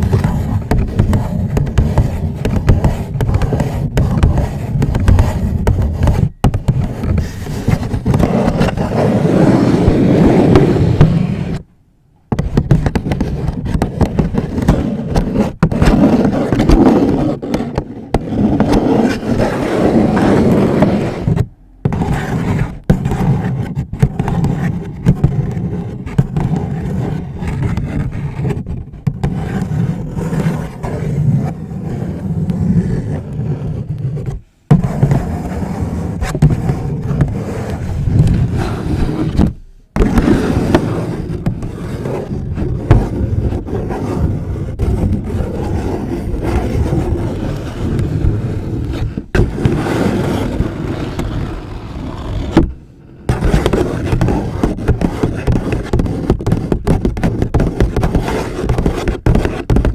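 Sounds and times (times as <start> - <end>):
fingernails scratching paper bag: 0.0 - 11.6, 12.3 - 59.9.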